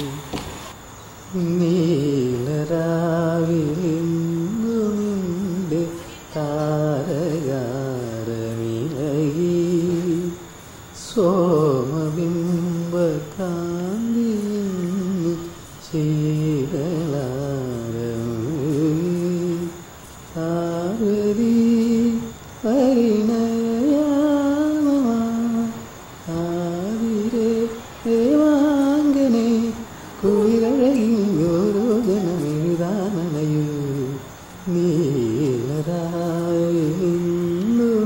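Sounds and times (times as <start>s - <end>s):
person humming a melody: 0.0s - 0.4s, 1.3s - 10.5s, 11.1s - 38.0s.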